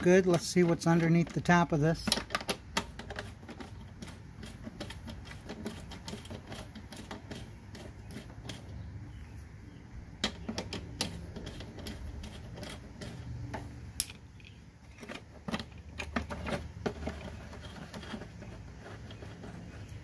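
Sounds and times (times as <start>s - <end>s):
hand tools clicking and knocking: 0.0s - 9.0s, 10.0s - 20.0s.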